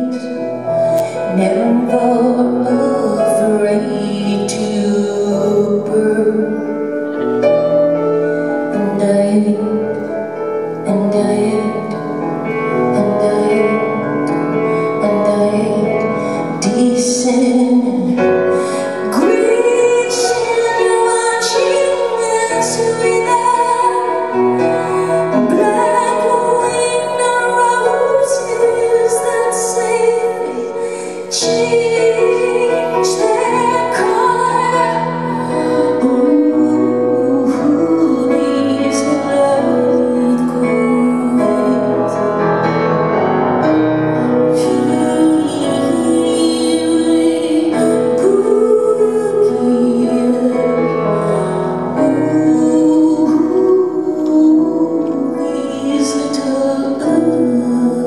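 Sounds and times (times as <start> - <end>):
woman singing: 0.0 - 7.2, 8.2 - 42.5, 44.1 - 58.0
piano and keyboards: 0.0 - 58.0.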